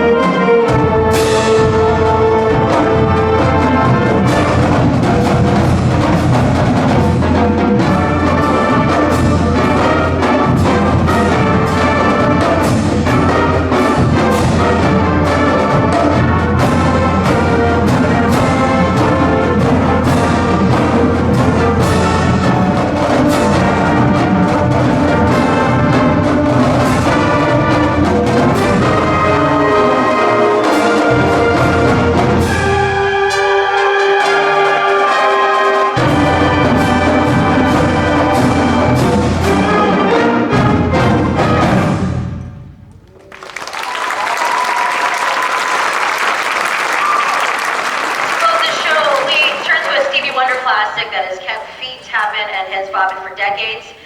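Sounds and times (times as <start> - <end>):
brass section playing: 0.0 - 42.4, 46.2 - 54.0
drumline beat: 0.0 - 54.0.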